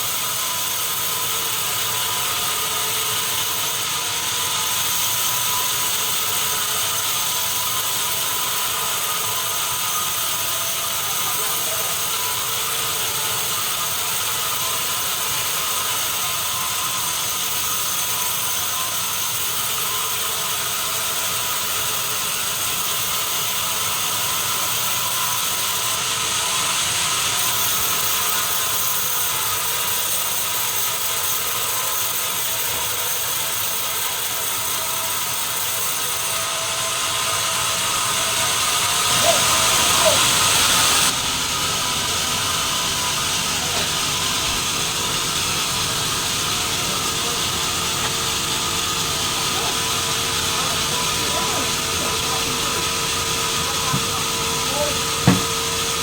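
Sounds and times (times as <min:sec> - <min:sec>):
sawmill saw cutting timber: 0:00.0 - 0:56.0.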